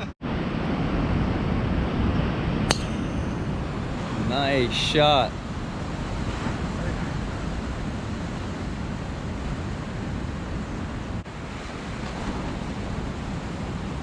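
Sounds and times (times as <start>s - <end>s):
ocean surf: 0.0s - 14.0s
wind buffeting microphone: 0.0s - 14.0s.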